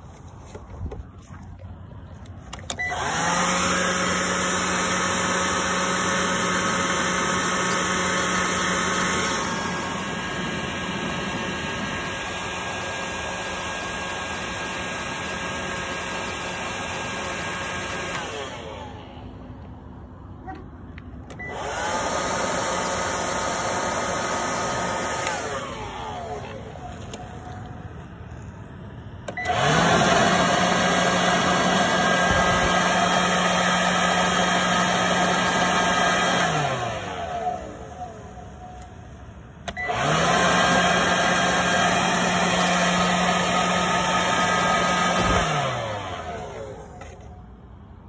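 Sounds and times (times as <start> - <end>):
electric leaf blower whining: 0.0 - 19.6, 21.3 - 47.7.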